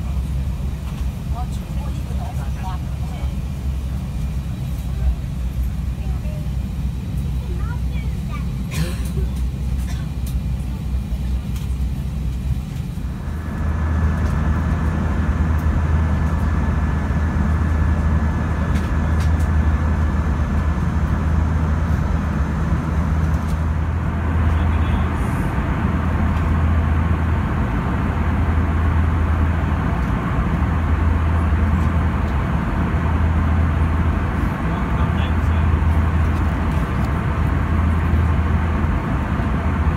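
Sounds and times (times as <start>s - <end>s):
airliner cabin rumble and hiss: 0.0s - 39.9s
thin steady whine: 0.0s - 39.9s.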